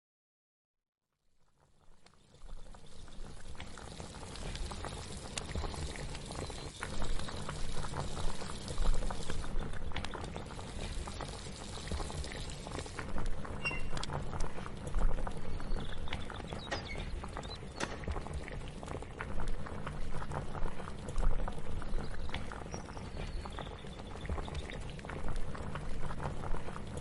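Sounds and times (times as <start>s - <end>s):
pot of liquid boiling: 1.1s - 27.0s.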